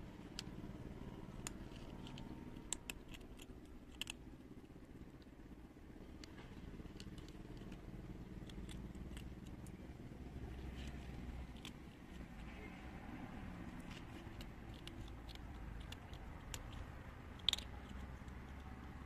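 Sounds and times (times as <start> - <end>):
low background rumble: 0.0 - 19.0
kittens crunching dry kibble: 0.2 - 19.0.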